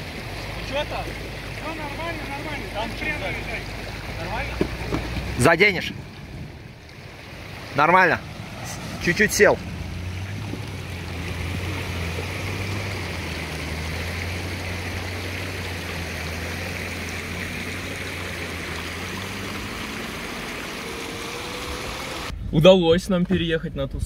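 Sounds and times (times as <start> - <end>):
mountain stream rushing: 0.0 - 22.3
suv engine running low: 0.0 - 22.3.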